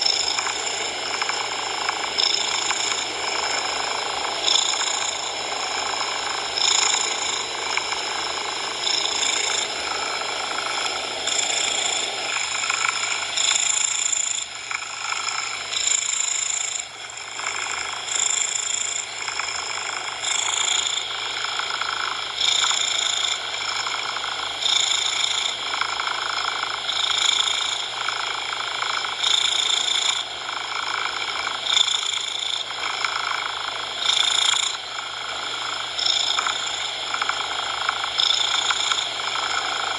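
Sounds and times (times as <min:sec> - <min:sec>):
cat purring: 0:00.0 - 0:39.9
steady noise hiss: 0:00.0 - 0:39.9.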